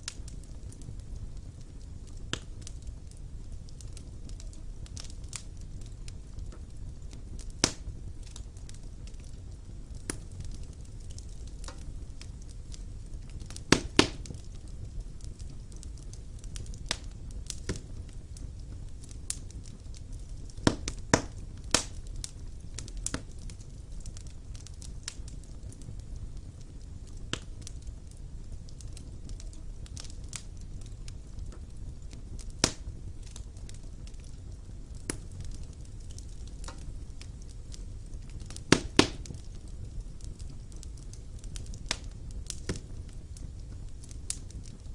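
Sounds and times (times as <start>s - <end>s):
fire crackling and popping: 0.0s - 44.9s
wood fire burning: 0.0s - 44.9s.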